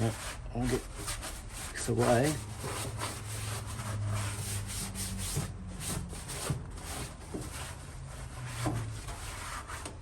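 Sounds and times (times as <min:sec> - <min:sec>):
scrubbing rust off sheet metal: 0:00.0 - 0:10.0.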